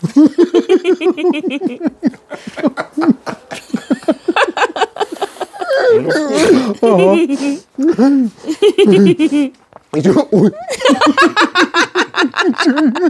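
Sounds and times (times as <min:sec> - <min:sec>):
hearty laughter: 0:00.0 - 0:09.6, 0:10.3 - 0:13.0.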